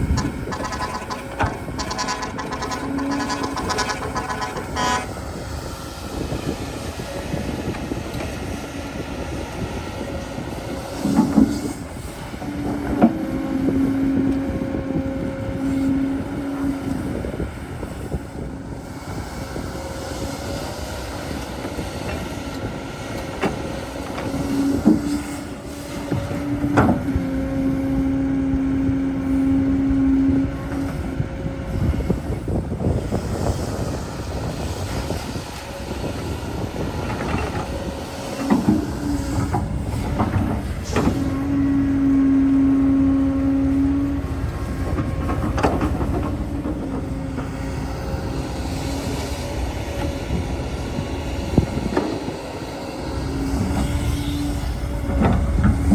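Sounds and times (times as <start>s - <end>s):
excavator machine noise: 0.0s - 55.9s.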